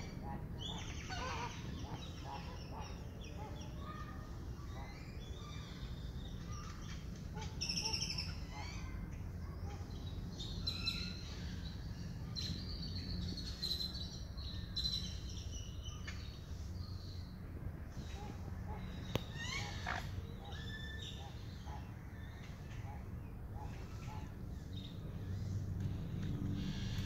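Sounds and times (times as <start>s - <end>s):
low background rumble: 0.0s - 27.0s
songbirds chirping and singing: 0.0s - 27.0s.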